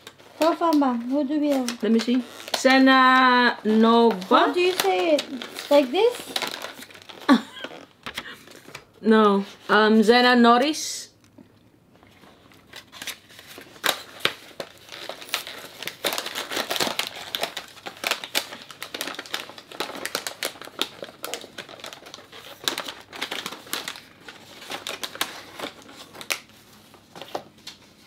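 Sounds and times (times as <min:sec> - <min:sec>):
plastic wrapping crinkling: 0:00.0 - 0:09.8, 0:12.0 - 0:28.0.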